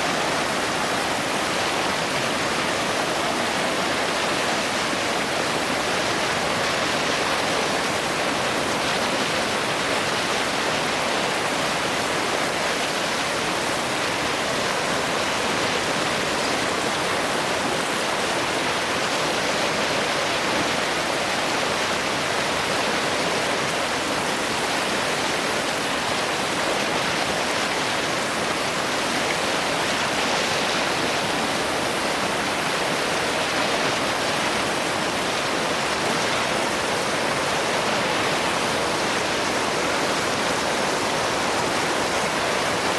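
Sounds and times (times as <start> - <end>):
water rushing over waterfall: 0.0 - 42.9.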